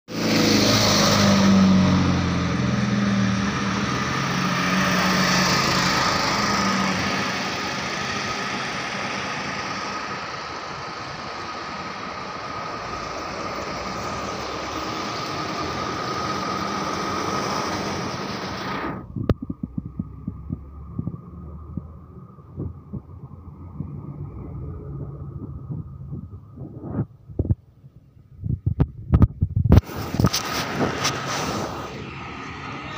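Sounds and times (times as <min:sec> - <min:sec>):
steady road rushing noise: 0:00.1 - 0:32.9
vehicle engine hum: 0:00.1 - 0:32.9.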